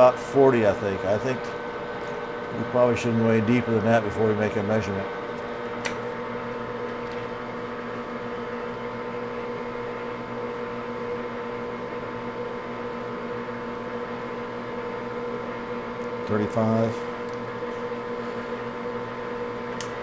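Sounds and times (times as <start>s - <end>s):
lathe humming: 0.0s - 20.0s.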